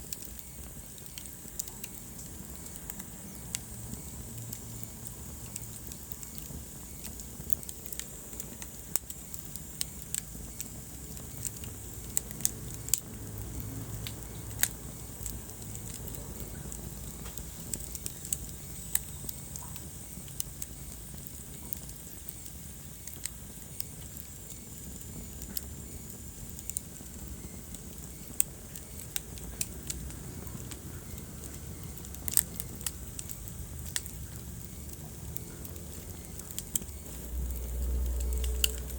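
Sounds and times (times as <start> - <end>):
rumble of fire flames: 0.0 - 38.9
wood fire crackling and popping: 0.0 - 38.9.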